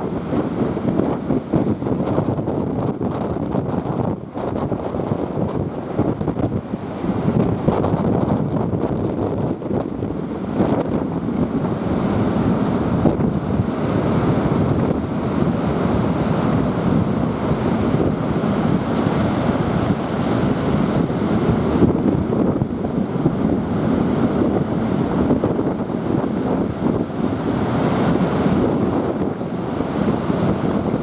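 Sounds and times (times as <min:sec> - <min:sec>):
surf breaking on beach: 0:00.0 - 0:31.0
wind rumbling on microphone: 0:00.0 - 0:31.0.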